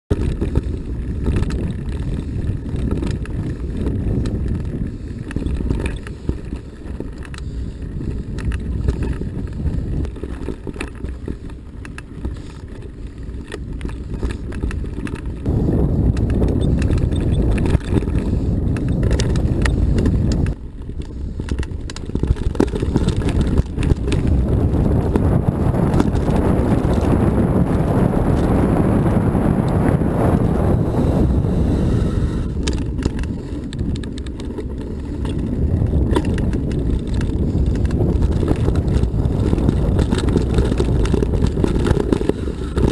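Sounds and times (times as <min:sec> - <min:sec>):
bike tyres rumbling on gravel: 0:00.1 - 0:42.9
small rattles and clicks: 0:00.1 - 0:42.9
wind buffeting microphone: 0:00.1 - 0:42.9.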